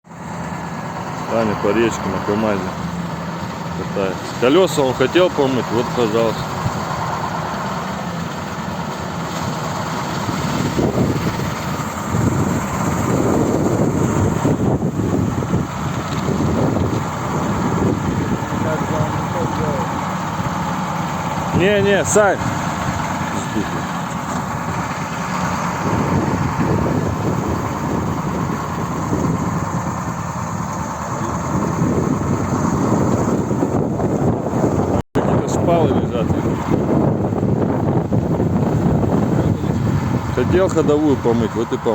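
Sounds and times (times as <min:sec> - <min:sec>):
truck diesel engine running: 0:00.0 - 0:41.9
truck driving through stream: 0:00.0 - 0:41.9.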